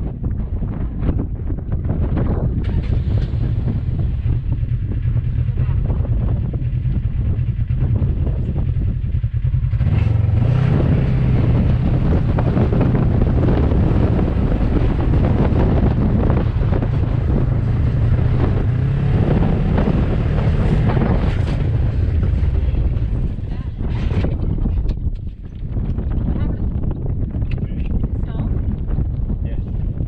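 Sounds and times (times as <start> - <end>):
wind on microphone: 0.0 - 30.0
vehicle engine running: 1.5 - 30.0.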